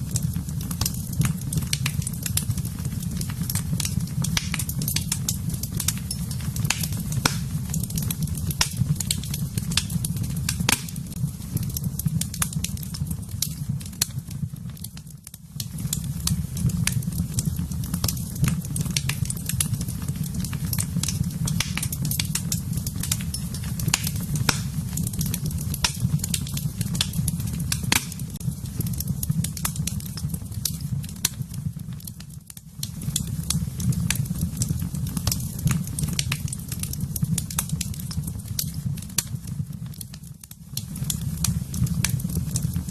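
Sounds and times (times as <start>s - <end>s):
fire crackling and popping: 0.0s - 42.9s
low rumble of fire: 0.0s - 42.9s.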